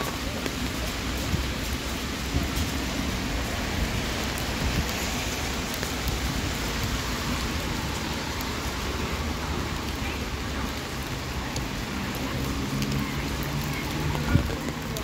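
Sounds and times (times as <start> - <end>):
heavy rain on a street: 0.0 - 15.0.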